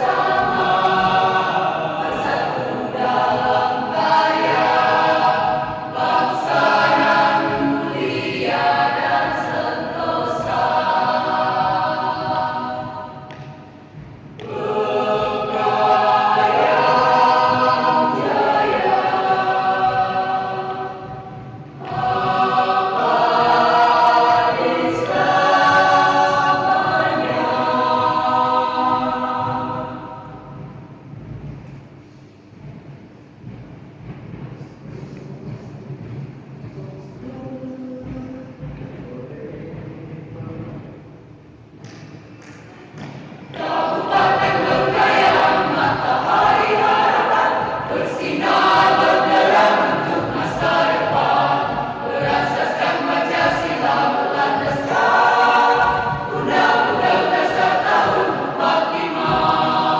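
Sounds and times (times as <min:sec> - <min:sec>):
choir singing sustained chords: 0:00.0 - 0:36.2, 0:42.6 - 0:59.9.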